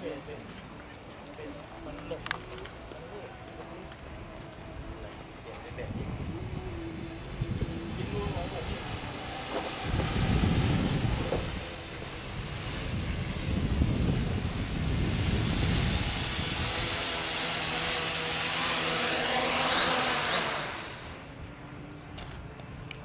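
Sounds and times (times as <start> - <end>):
quadcopter propellers running: 0.0 - 22.4
high motor whine: 0.0 - 23.0.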